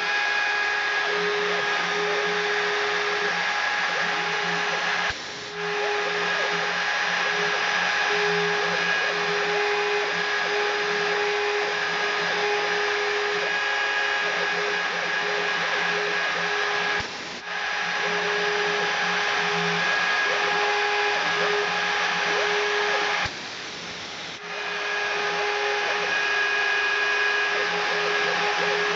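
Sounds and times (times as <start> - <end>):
milling machine spindle whine: 0.0 - 28.9.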